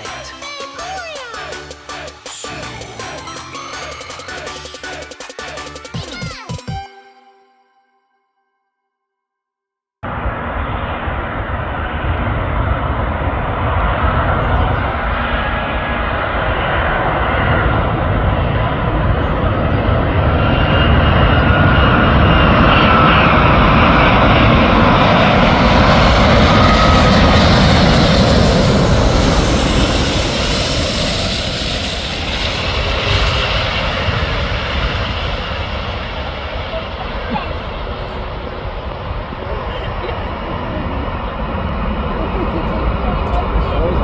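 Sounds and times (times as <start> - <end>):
jet airliner landing roar: 0.0 - 6.2, 10.0 - 44.0.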